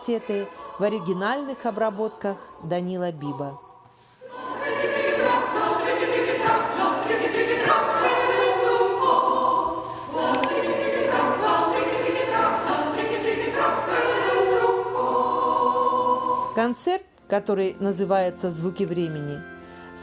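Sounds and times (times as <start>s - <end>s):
choir singing sustained chords: 0.0s - 16.8s.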